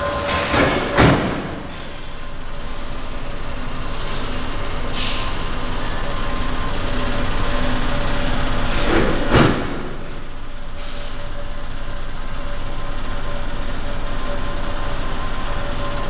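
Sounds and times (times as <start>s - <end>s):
vibrating machine hum and rattle: 0.0s - 16.0s.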